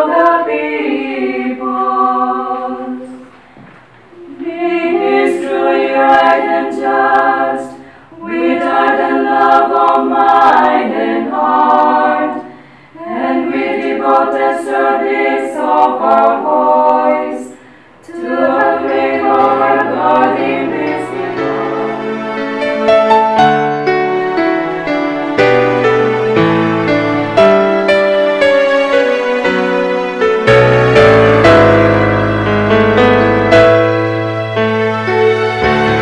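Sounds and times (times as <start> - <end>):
choir singing unaccompanied: 0.0 - 3.3, 4.1 - 34.4.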